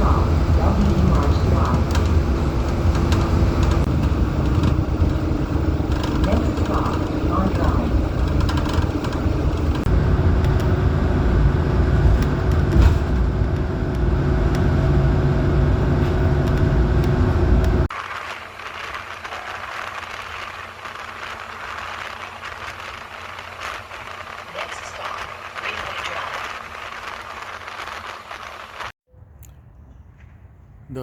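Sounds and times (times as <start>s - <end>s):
loud low vehicle rumble: 0.0s - 29.4s.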